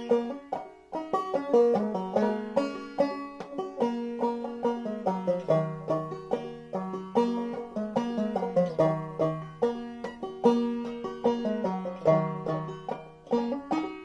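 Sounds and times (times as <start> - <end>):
banjo playing fiddle tune: 0.0 - 14.0.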